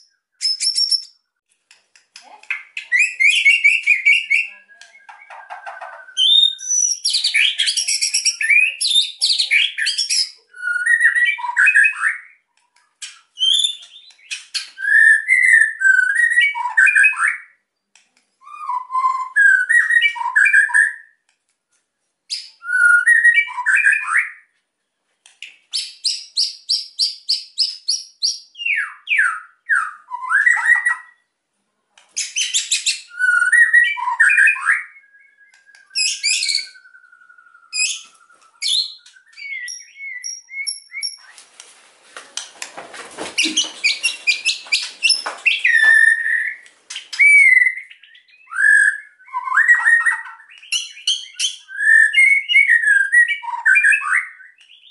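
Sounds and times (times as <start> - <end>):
songbird singing whistled phrases: 0.0 - 1.3, 2.4 - 17.6, 18.4 - 21.2, 22.3 - 24.5, 25.3 - 31.3, 32.2 - 41.4, 43.4 - 54.9.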